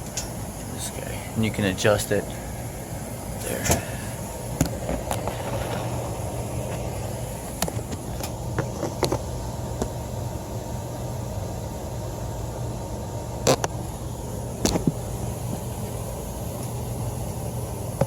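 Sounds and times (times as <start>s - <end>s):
mechanical hum of hvac equipment: 0.0s - 18.0s.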